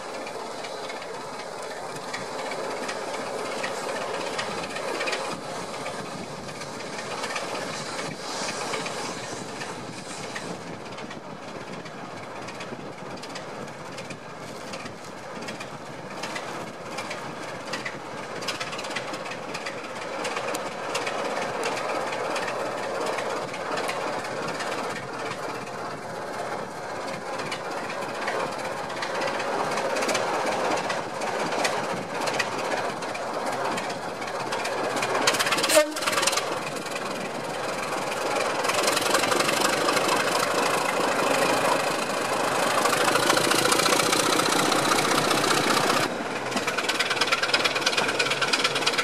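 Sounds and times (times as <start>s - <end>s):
train wheels clicking over rail joints: 0.0s - 49.0s.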